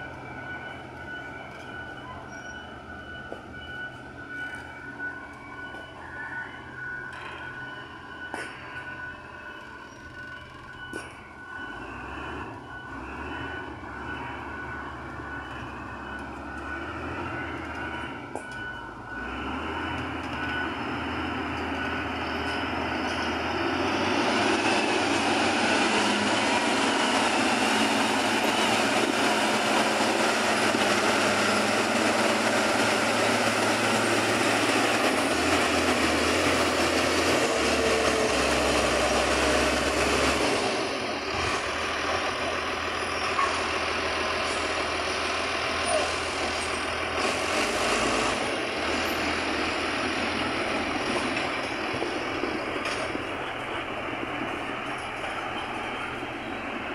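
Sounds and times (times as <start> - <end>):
grader diesel engine running: 0.0 - 56.9.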